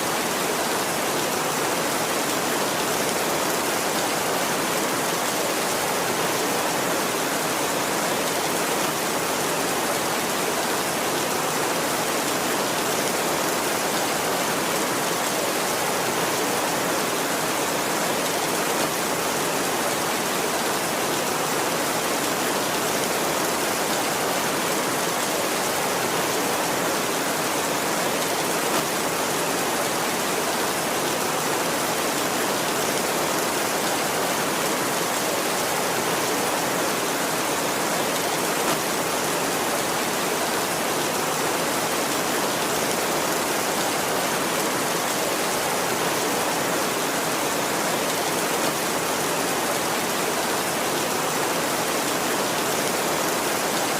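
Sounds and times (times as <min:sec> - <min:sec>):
heavy rain on a tin roof: 0:00.0 - 0:53.9.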